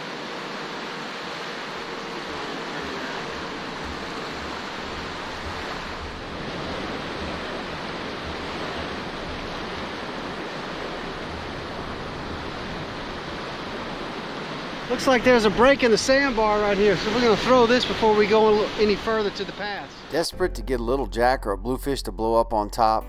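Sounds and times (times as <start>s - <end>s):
surf breaking on a beach: 0.0s - 20.2s
wind: 0.0s - 21.1s.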